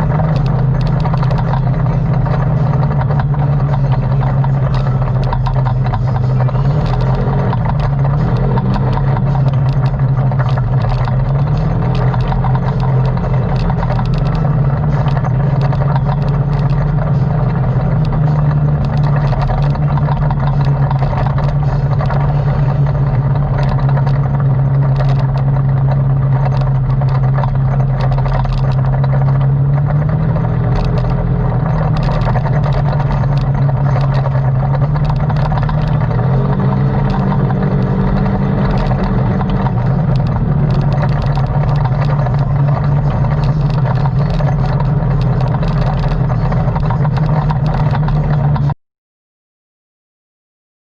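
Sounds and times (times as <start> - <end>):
atv engine running: 0.0 - 48.8.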